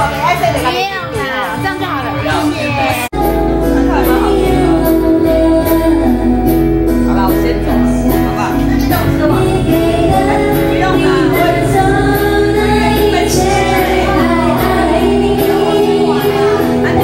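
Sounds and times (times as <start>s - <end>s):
pop backing track with beat: 0.0s - 17.0s
woman singing into a microphone: 3.2s - 17.0s.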